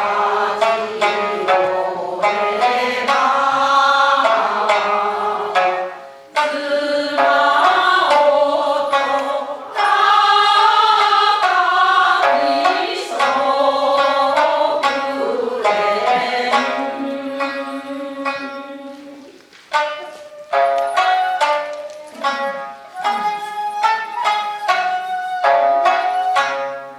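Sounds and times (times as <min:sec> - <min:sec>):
shamisen plucks: 0:00.0 - 0:26.9
wavering held melody: 0:00.0 - 0:26.9.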